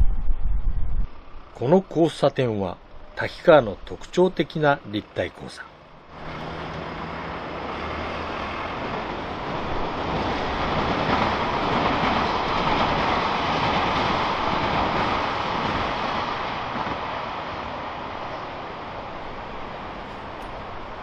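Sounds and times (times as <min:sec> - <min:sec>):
train crossing railway bridge: 0:00.0 - 0:21.0.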